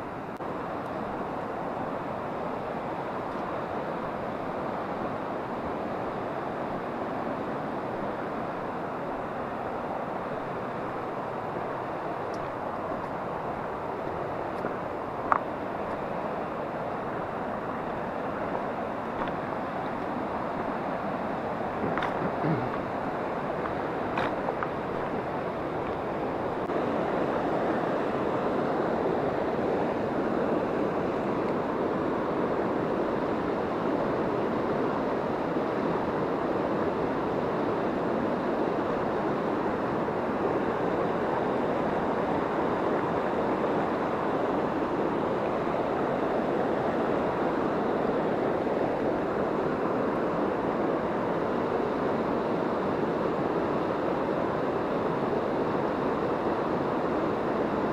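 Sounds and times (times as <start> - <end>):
mountain river rushing: 0.0 - 57.9.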